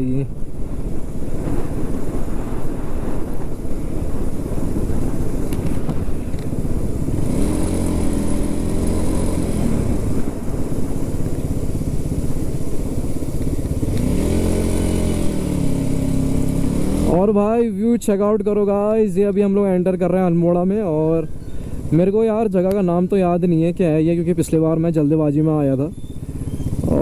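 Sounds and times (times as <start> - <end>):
motorcycle engine accelerating: 0.0 - 17.5, 20.0 - 27.0
wind rushing over microphone: 0.0 - 24.9.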